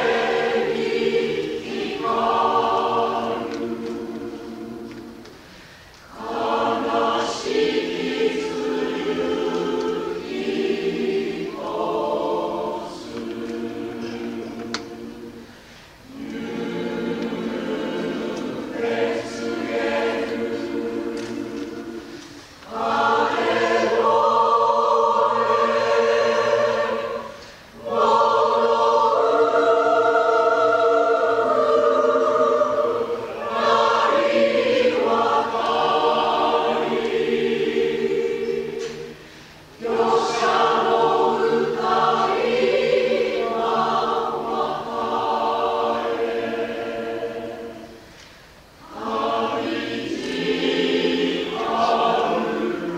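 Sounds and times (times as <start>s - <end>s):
choir singing slow song: 0.0s - 52.9s.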